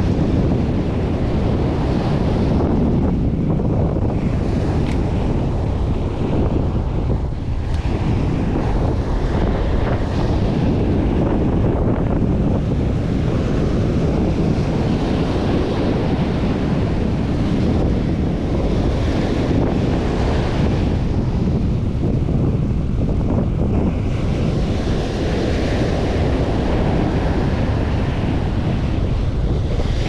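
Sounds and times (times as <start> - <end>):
surf on beach: 0.0 - 30.0
wind buffeting microphone: 0.0 - 30.0.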